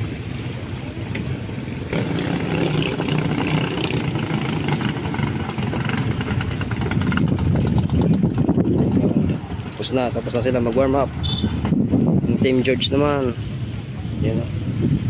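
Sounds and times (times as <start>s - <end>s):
boat engine at high speed: 0.0s - 15.0s.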